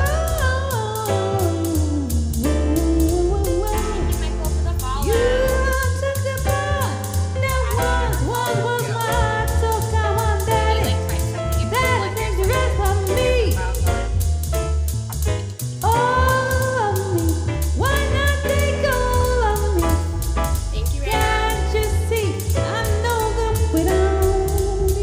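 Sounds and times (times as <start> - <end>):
woman singing: 0.0 - 13.6, 15.8 - 25.0
band with steady drum beat: 0.0 - 25.0.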